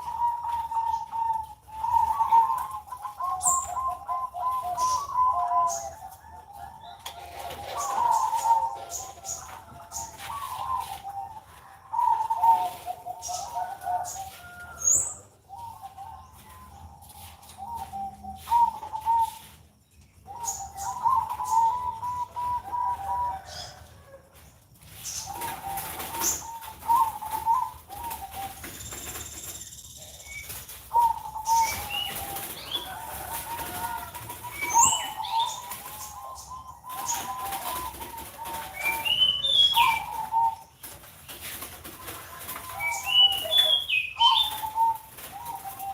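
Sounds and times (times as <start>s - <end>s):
dove cooing: 0.0s - 19.6s, 20.2s - 24.2s, 24.9s - 29.4s, 30.0s - 45.9s
small birds chirping: 0.0s - 45.9s.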